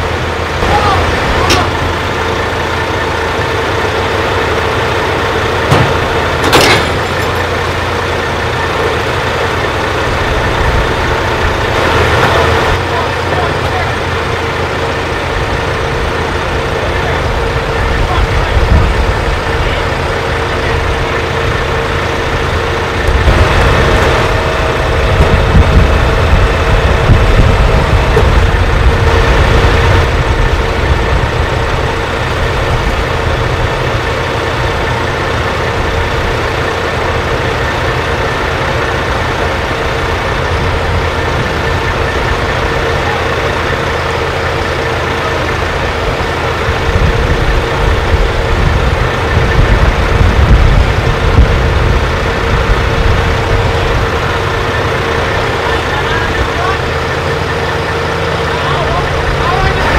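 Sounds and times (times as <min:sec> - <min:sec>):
diesel engines rumbling: 0:00.0 - 0:59.9.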